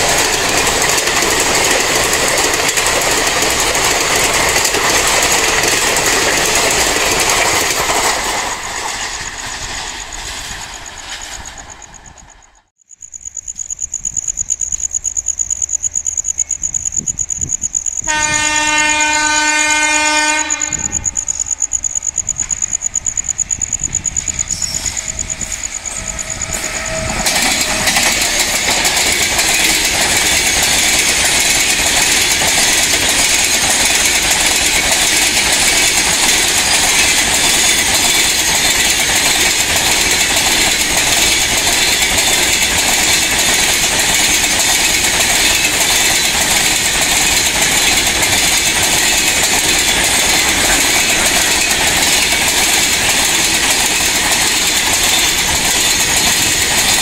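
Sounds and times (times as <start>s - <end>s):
train wheels rattling on rails: 0.0s - 57.0s.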